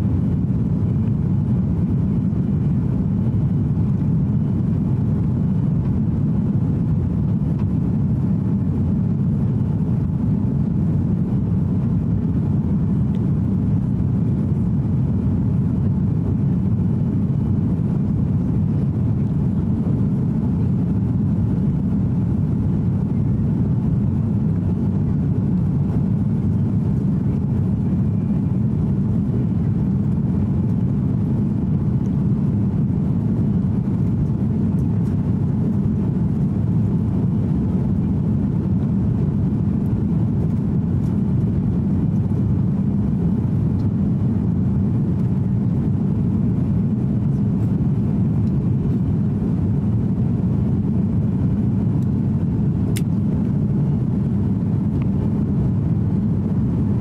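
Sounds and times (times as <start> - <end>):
jet engine drone in cabin: 0.0 - 57.0.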